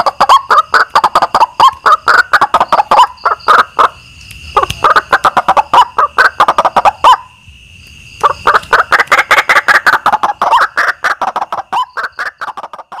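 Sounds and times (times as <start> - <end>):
bird croaking calls: 0.0 - 7.4, 8.2 - 13.0.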